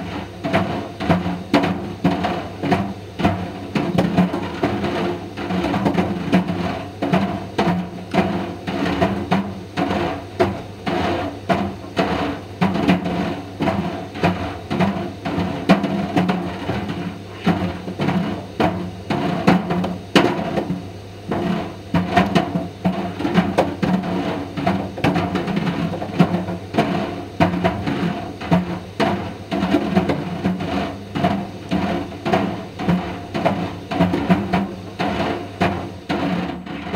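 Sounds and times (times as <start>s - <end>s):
dryer balls knocking drum: 0.0s - 36.9s
tumble dryer drum hum: 0.0s - 36.9s.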